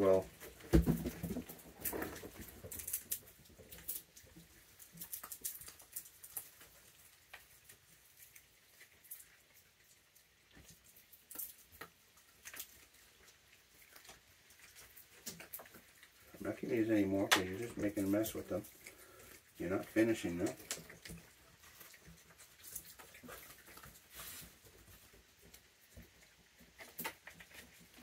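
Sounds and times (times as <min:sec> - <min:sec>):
faint clicks and rustles: 0:00.0 - 0:28.0.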